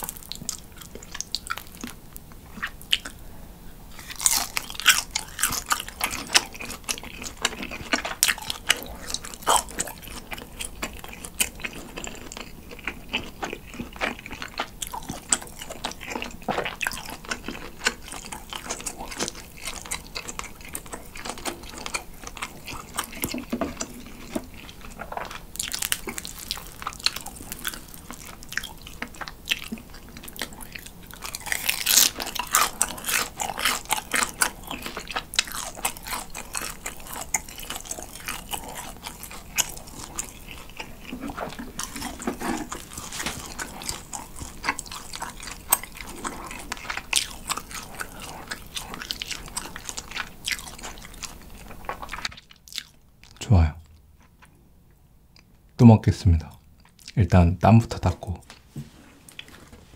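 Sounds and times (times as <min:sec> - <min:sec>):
wet chewing clicks: 0:00.0 - 0:03.2, 0:04.0 - 0:54.6, 0:56.4 - 0:57.2.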